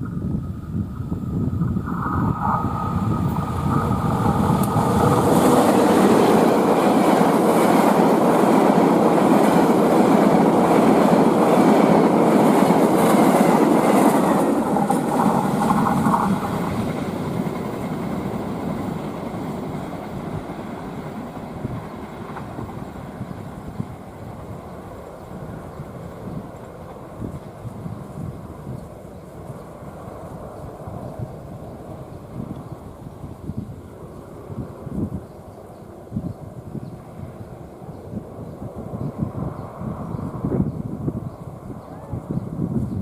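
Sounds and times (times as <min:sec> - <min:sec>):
train passing at high speed: 0:00.0 - 0:43.0.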